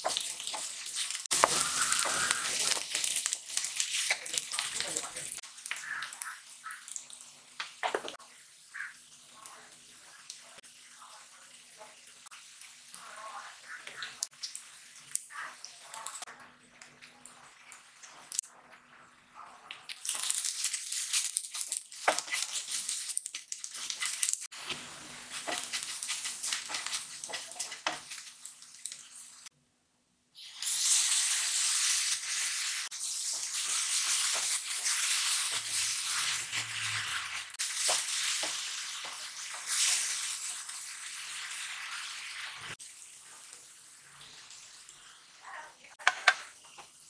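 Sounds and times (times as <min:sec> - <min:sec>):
masala sizzling in hot oil: 0:00.0 - 0:16.3, 0:16.9 - 0:19.1, 0:19.7 - 0:29.6, 0:30.4 - 0:47.0.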